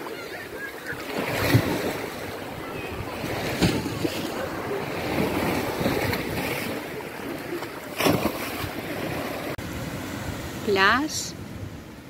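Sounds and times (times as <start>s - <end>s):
sea water lapping: 0.0s - 11.4s.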